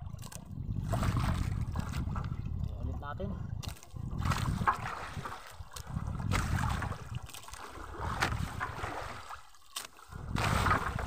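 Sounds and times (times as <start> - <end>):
wind buffeting microphone: 0.0 - 9.3, 10.1 - 11.0
water washing against boat: 0.0 - 11.0.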